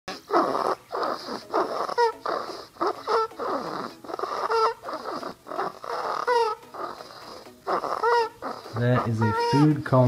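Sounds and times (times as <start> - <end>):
dog snoring: 0.1 - 9.8.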